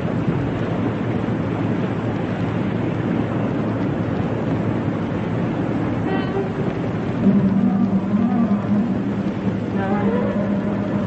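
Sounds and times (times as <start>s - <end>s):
low engine rumble: 0.0s - 11.0s
wind and water rushing: 0.0s - 11.0s.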